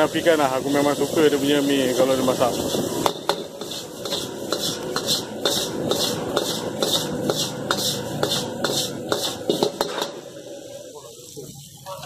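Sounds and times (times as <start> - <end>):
steady sizzle: 0.0 - 12.0
spatula scraping a wok: 0.1 - 10.9.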